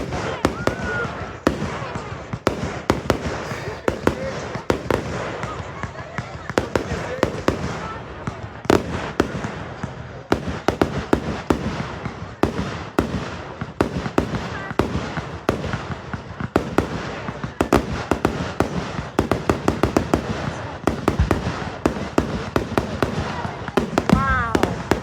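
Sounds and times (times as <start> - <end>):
firework bangs: 0.0 - 25.0
firework crackling: 0.0 - 25.0.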